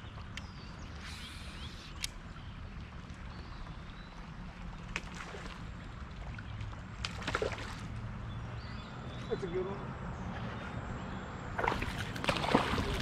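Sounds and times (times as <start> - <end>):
creek water lapping: 0.0 - 13.0.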